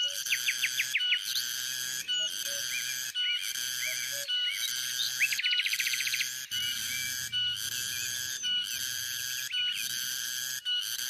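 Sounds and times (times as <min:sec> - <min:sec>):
bird trilling and chirping: 0:00.0 - 0:10.9
cicadas buzzing: 0:00.0 - 0:11.0.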